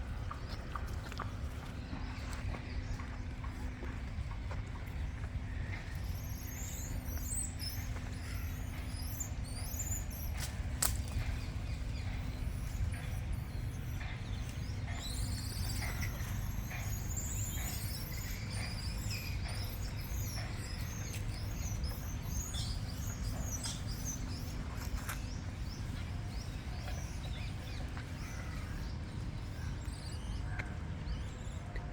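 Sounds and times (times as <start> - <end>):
low background rumble: 0.0 - 31.9
small birds chirping: 0.0 - 31.9.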